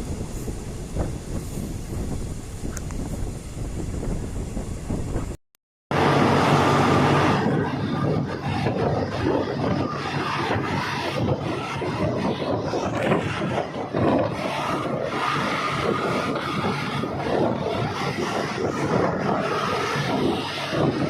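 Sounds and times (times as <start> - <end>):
train carriage rumble: 0.0 - 21.0.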